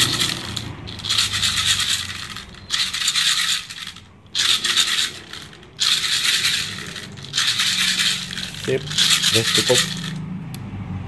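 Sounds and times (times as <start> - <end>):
plastic pellets rattling in magazine: 0.0 - 10.2.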